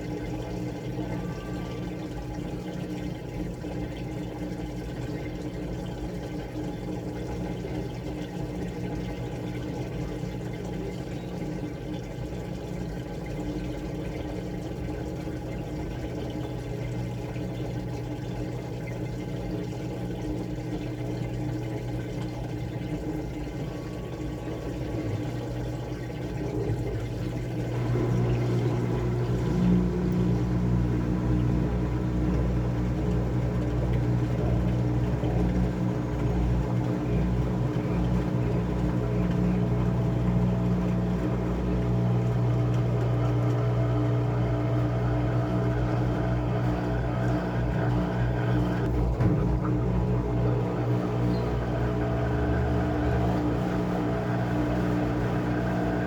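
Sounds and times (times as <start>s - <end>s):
washing machine running: 0.0s - 56.0s
water moving: 0.0s - 56.0s.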